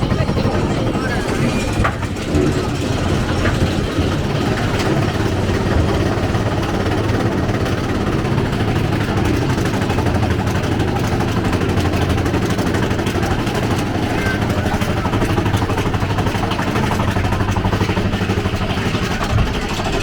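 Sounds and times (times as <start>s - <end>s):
roller coaster rumbling on track: 0.0s - 20.0s.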